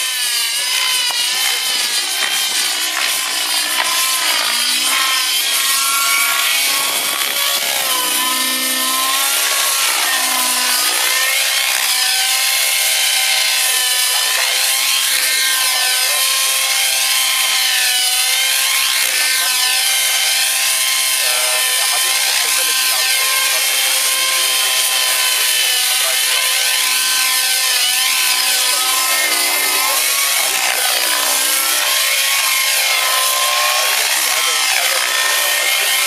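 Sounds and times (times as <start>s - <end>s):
rc helicopter whine: 0.0s - 36.0s.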